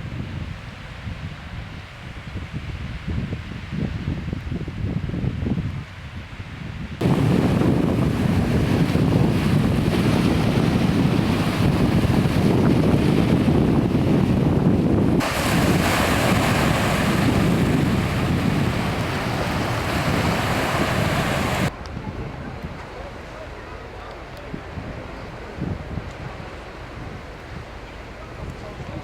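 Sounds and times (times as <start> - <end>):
wind buffeting microphone: 0.0 - 23.4, 24.5 - 29.0.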